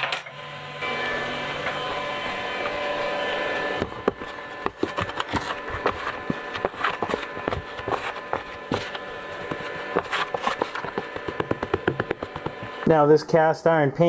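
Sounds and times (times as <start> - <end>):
welder cooling fan humming: 0.0 - 14.0.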